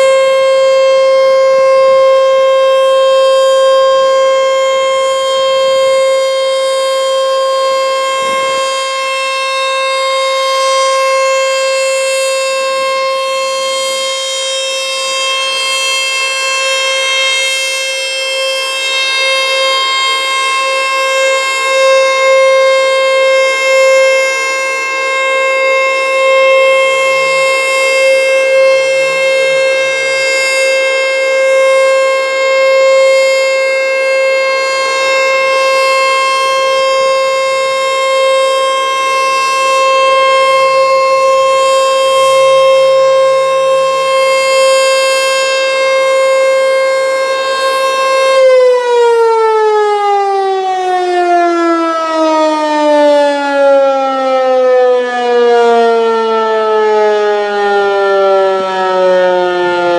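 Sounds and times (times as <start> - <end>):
outdoor warning siren steady tone: 0.0 - 59.9.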